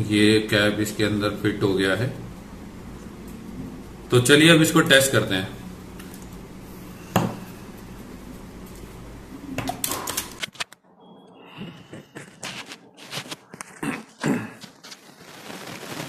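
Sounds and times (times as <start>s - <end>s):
background hum: 0.0s - 15.5s.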